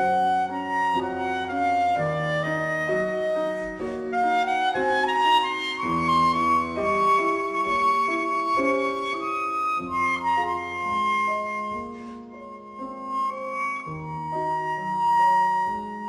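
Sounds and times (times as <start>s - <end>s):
clarinet melody: 0.0s - 16.0s
piano accompaniment: 0.0s - 16.0s.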